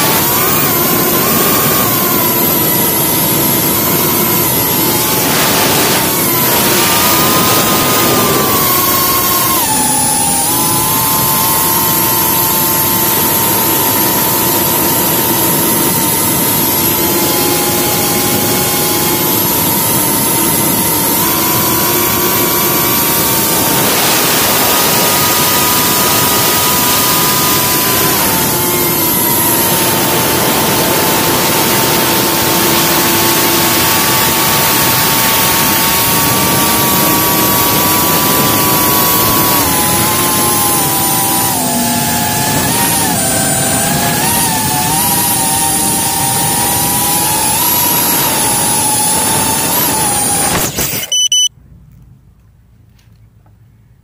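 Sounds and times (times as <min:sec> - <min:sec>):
drone motors whining: 0:00.0 - 0:51.5.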